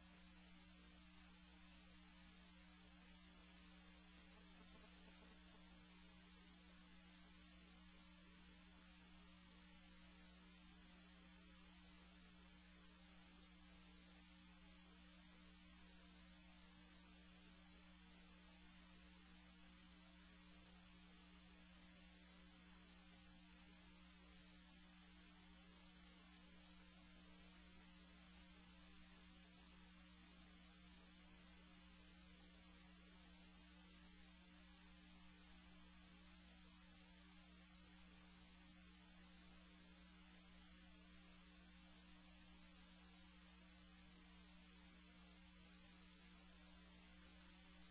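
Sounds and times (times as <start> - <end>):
faint electrical hum: 0.0 - 47.9
low hiss: 0.0 - 47.9.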